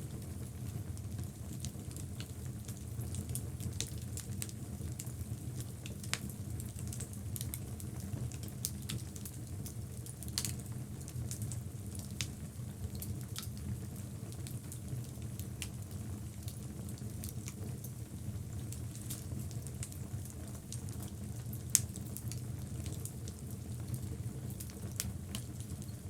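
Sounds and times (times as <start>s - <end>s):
fire crackling and popping: 0.0s - 26.0s
low roar of flames: 0.0s - 26.0s.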